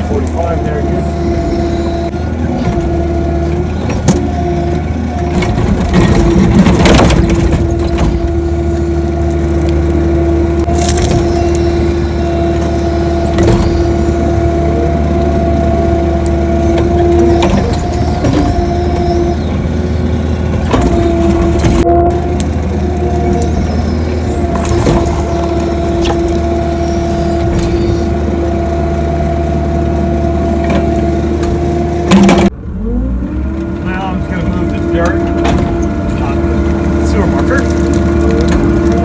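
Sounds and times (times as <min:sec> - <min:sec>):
excavator engine humming: 0:00.0 - 0:39.0.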